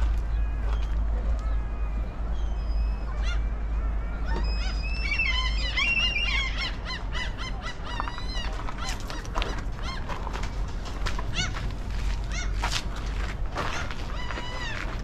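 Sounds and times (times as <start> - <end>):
birds honking calls: 0.0 - 15.0.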